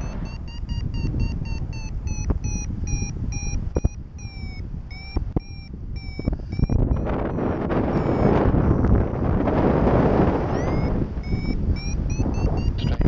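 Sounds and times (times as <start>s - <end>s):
variometer beeping: 0.0s - 13.0s
wind rumble on microphone: 0.0s - 13.0s.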